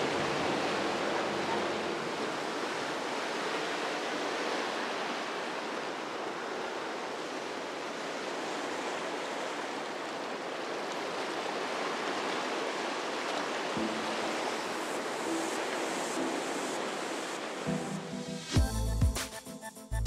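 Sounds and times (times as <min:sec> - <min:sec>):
waves breaking: 0:00.0 - 0:18.6.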